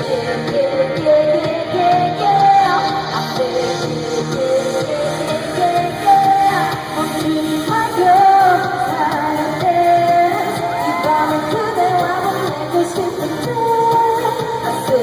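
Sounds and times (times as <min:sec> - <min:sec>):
amplified backing track: 0:00.0 - 0:15.0
women singing pop: 0:00.0 - 0:15.0.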